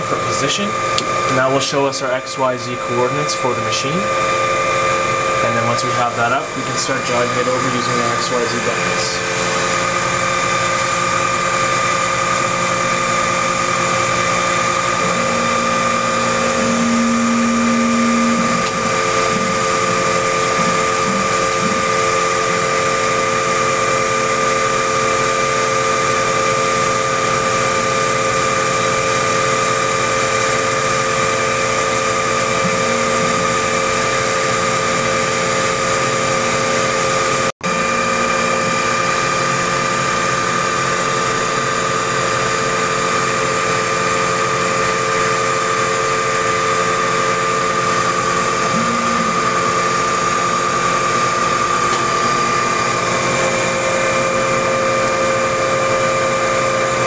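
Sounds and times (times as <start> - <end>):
milling machine whine: 0.0 - 57.0.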